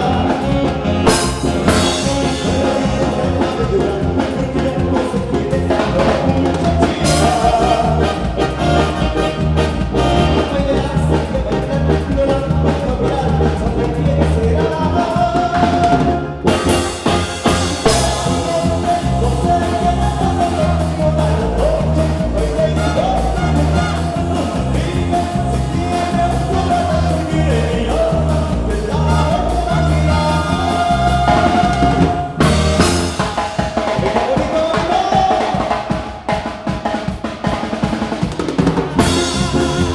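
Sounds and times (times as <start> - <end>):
band music with drums and bass: 0.0 - 39.9.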